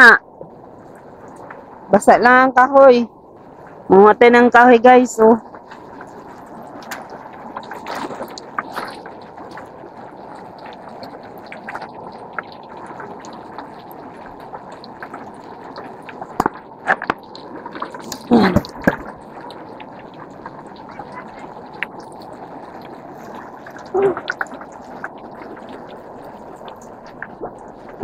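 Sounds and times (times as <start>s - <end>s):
river running over rocks: 5.4s - 28.0s.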